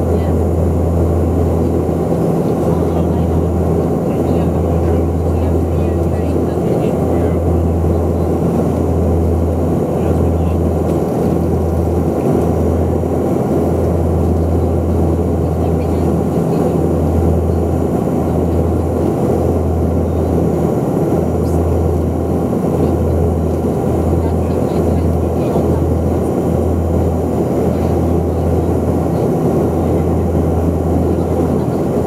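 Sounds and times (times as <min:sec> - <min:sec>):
turboprop engines droning in cabin: 0:00.0 - 0:32.0.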